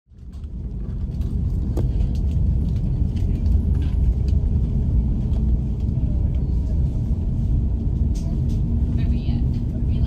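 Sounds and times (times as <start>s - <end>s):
airplane cabin rumble while taxiing: 0.1s - 10.0s.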